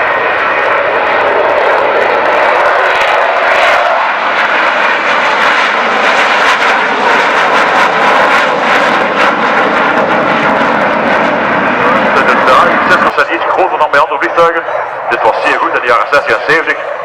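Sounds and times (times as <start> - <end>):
aircraft engine flying past: 0.0 - 17.0.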